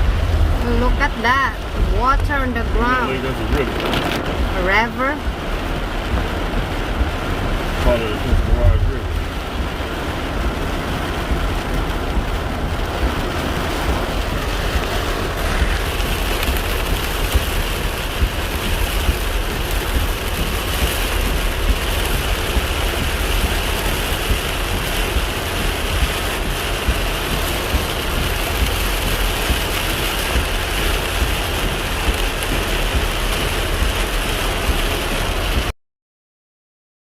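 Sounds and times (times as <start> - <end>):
heavy rain on a car: 0.0 - 35.7
steady low rumble: 0.0 - 35.7.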